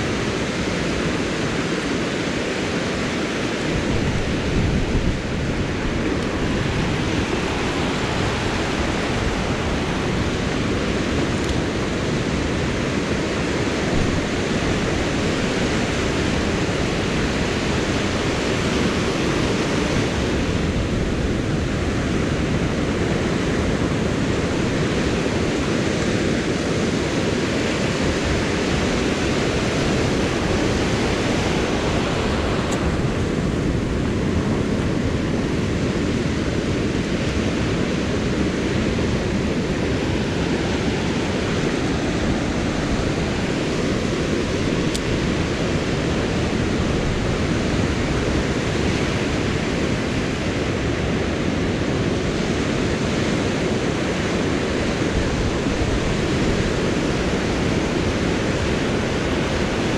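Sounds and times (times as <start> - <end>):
surf washing up beach: 0.0 - 59.9
wind: 0.0 - 59.9.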